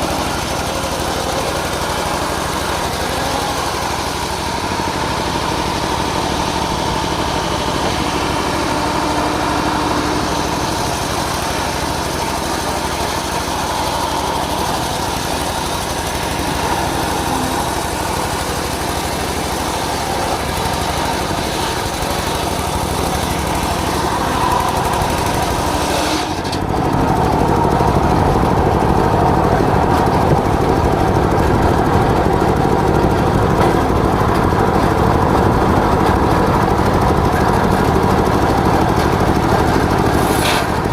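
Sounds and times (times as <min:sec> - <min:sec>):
engine-driven circular sawmill running: 0:00.0 - 0:40.9.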